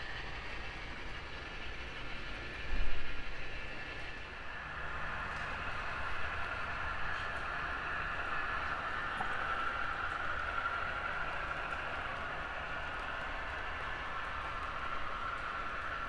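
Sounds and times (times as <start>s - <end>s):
wheels rumbling on rail: 0.0s - 16.0s.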